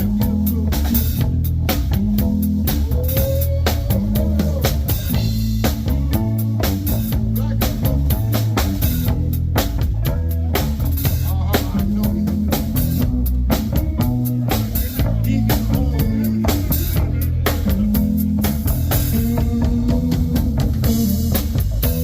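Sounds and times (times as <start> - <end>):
drum kit beat: 0.0 - 22.0
live band playing: 0.0 - 22.0.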